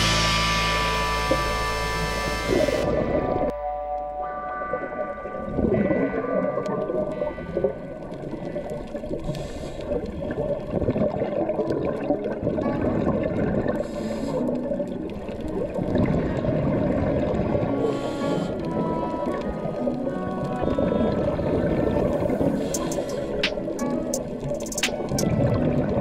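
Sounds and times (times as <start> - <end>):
regulator bubbles hissing: 0.0 - 3.5, 5.6 - 26.0
muffled underwater sound: 0.0 - 26.0.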